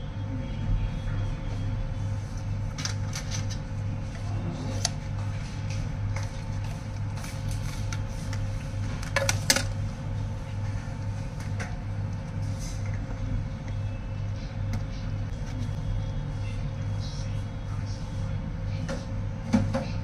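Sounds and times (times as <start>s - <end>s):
low pulsing mechanical hum: 0.0s - 20.0s.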